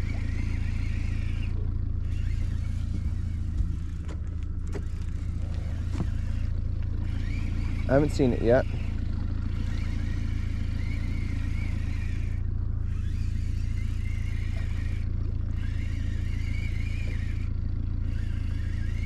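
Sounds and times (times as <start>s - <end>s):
outboard motor droning: 0.0s - 19.0s
wavering high whine: 0.0s - 19.0s.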